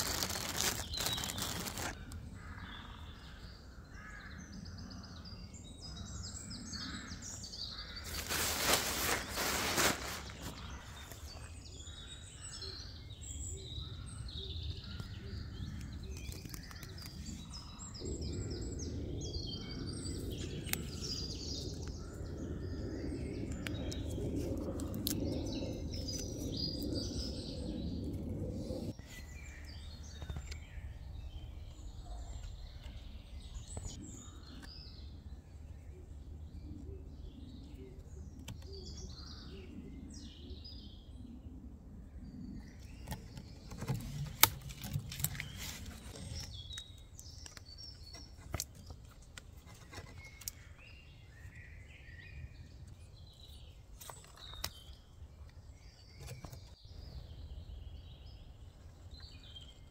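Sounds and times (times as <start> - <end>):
songbirds chirping and singing: 0.1 - 59.9.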